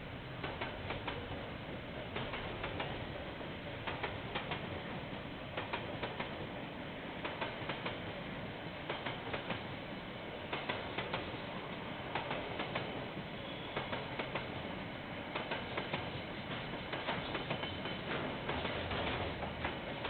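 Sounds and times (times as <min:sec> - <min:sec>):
train rumbling past: 0:00.0 - 0:20.0
train wheels clicking: 0:00.2 - 0:06.5, 0:07.1 - 0:20.0.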